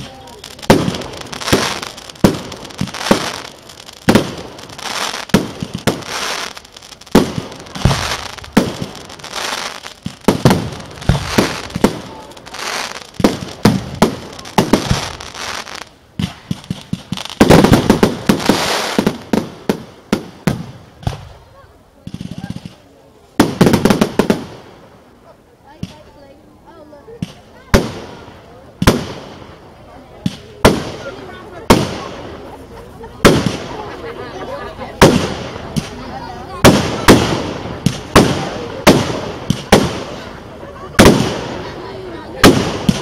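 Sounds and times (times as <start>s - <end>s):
firework shells bursting with hiss: 0.0s - 21.4s, 22.0s - 25.2s, 27.2s - 32.6s, 33.2s - 34.0s, 34.9s - 43.0s.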